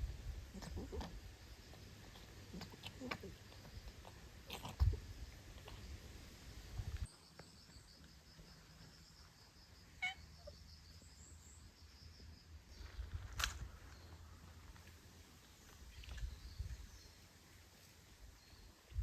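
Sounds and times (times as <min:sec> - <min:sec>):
insect chirping: 0:00.0 - 0:17.4.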